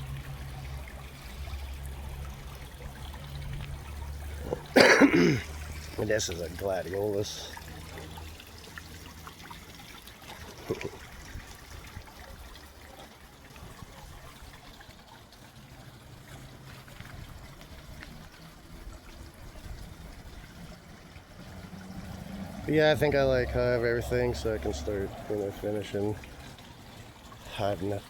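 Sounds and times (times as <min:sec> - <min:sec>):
pond water trickling: 0:00.0 - 0:28.0.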